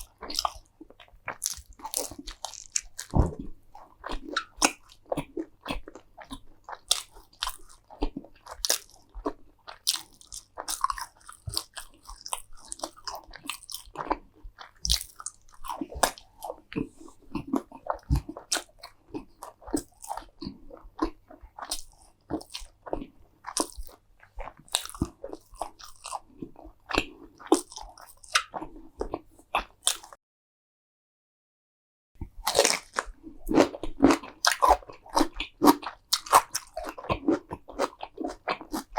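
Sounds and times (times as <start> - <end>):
person crunching crisp food: 0.0 - 30.2, 32.4 - 38.9.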